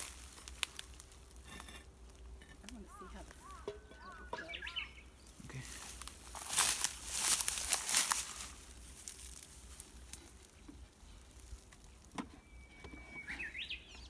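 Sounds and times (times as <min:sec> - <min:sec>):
rustling crinkling: 0:00.0 - 0:13.7.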